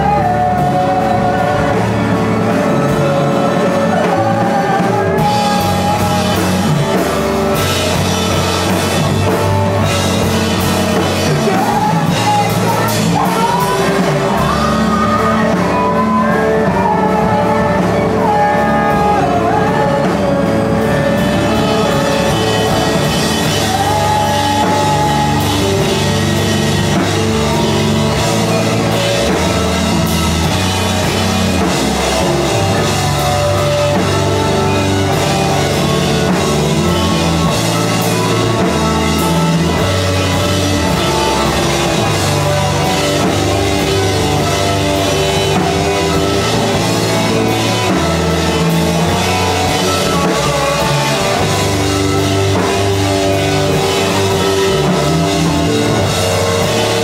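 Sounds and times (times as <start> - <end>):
bass guitar: 0.0 - 57.0
drum kit: 0.0 - 57.0
guitar: 0.0 - 57.0.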